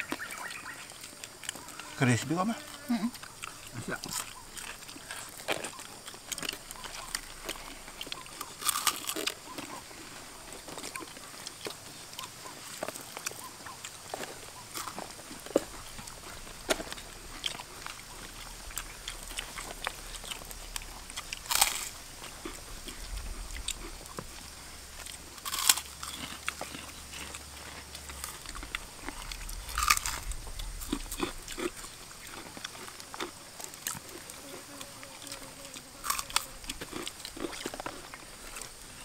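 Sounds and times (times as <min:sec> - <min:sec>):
people chewing crunchy food: 0:00.0 - 0:39.0.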